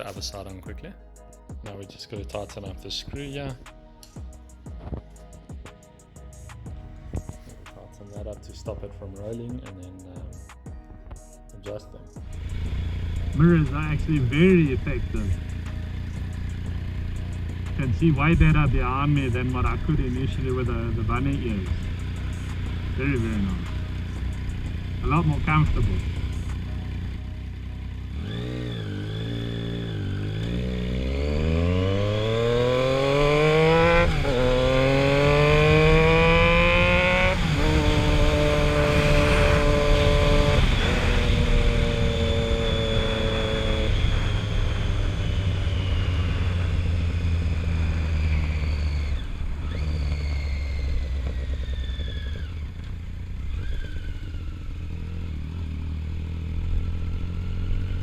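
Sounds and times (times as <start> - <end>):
motorcycle engine revving: 1.9 - 58.0.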